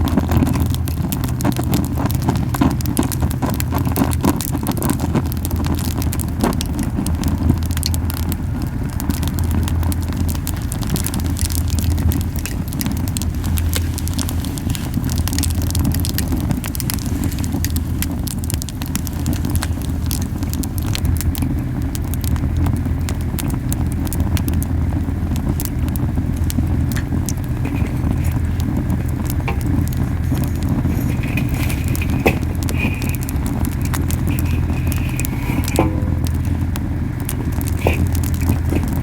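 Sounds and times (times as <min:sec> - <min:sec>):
campfire crackling and popping: 0:00.0 - 0:39.0
low rumbling of flames: 0:00.0 - 0:39.0.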